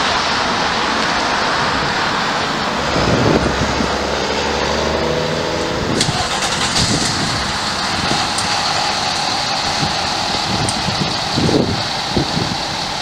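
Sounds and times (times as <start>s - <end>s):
diesel engine starting and rumbling: 0.0s - 13.0s
street noise: 0.0s - 13.0s.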